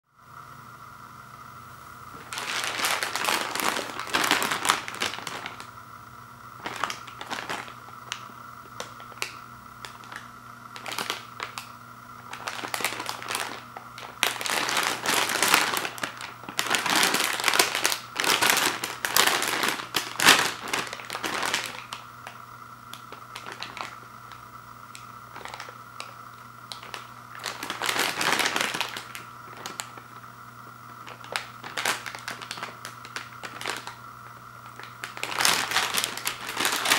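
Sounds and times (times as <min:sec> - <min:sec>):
foil snack bag crinkling: 0:02.1 - 0:05.8, 0:06.5 - 0:36.9.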